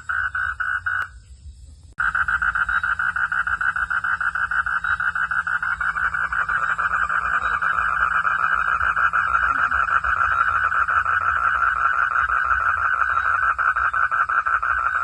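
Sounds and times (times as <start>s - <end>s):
frogs calling in a pulsed chorus: 0.0s - 1.4s, 2.0s - 15.0s.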